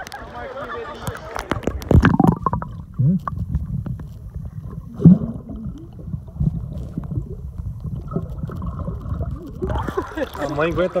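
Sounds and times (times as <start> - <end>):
underwater water sloshing: 1.0 - 11.0
loud underwater gurgle: 1.6 - 10.7.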